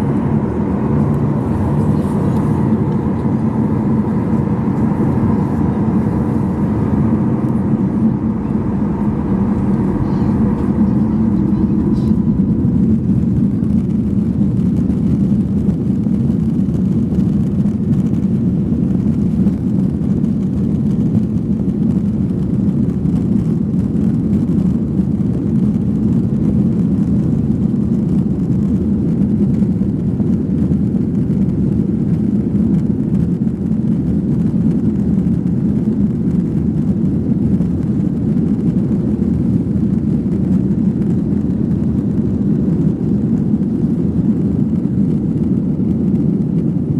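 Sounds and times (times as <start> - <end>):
airliner cabin drone: 0.0 - 46.9.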